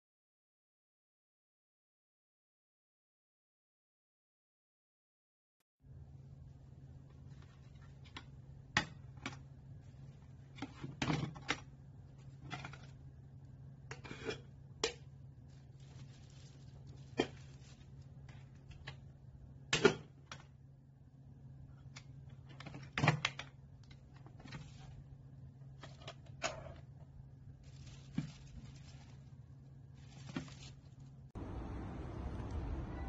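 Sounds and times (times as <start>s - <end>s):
low steady hum: 5.9s - 33.0s.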